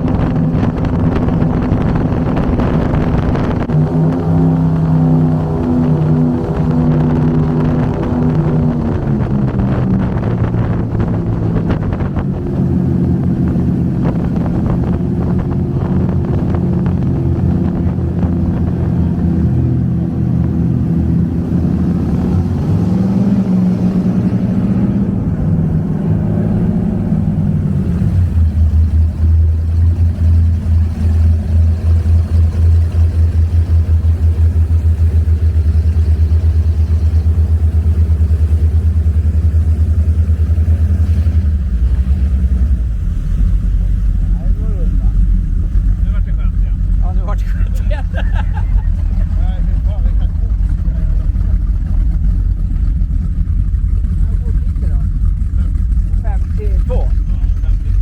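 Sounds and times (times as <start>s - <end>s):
boat engines running: 0.0s - 58.0s.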